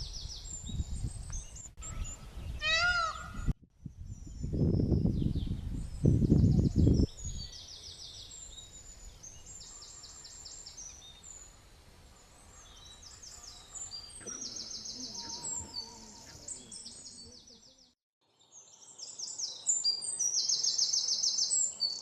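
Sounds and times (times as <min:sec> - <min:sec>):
small birds singing trills: 0:00.0 - 0:03.1, 0:03.8 - 0:22.0.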